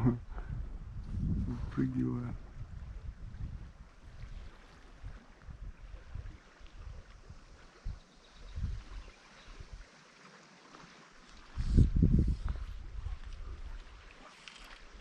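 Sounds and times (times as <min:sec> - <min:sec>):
wind rumble on microphone: 0:00.0 - 0:09.9, 0:11.3 - 0:15.0
shallow river riffle: 0:01.6 - 0:15.0.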